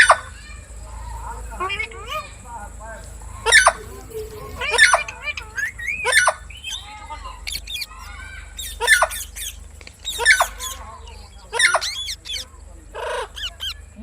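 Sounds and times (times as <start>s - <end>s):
parrot squawking: 0.0s - 14.0s
parrot warbling chatter: 0.0s - 14.0s.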